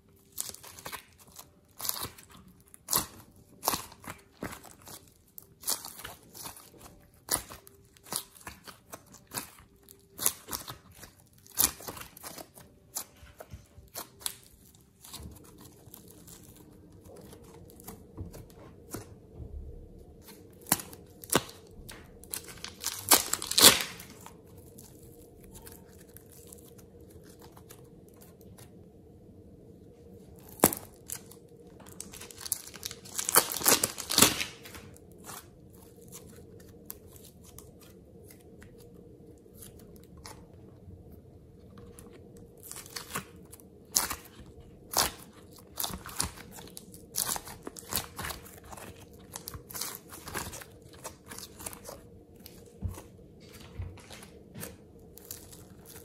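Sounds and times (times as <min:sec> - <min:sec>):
plastic bag crinkling: 0:00.0 - 0:19.1, 0:20.1 - 0:28.8, 0:30.3 - 0:40.7, 0:41.7 - 0:56.0
sticky clay crackles and clicks: 0:00.0 - 0:29.2, 0:29.9 - 0:56.0.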